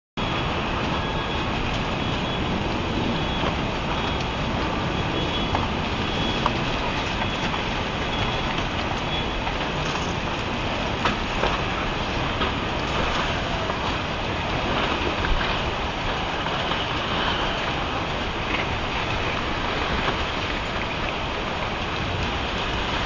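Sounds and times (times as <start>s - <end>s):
floodwater roaring: 0.2s - 23.0s.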